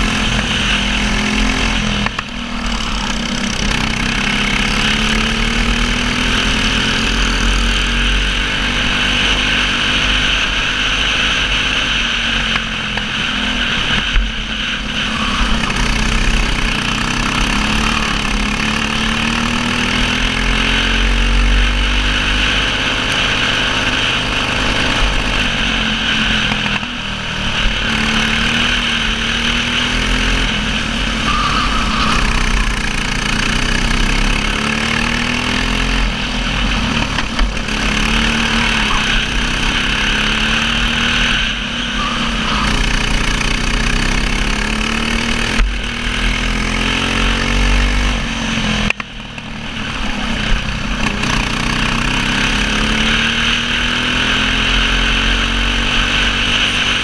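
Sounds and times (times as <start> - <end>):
racing kart engine: 0.0 - 57.0.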